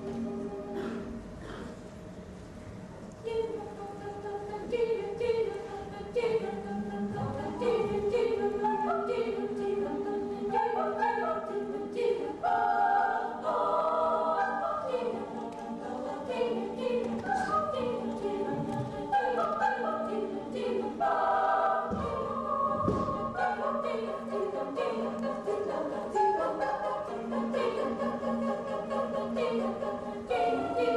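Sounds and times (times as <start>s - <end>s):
children's choir singing a cappella: 0.0s - 2.0s, 3.2s - 30.9s.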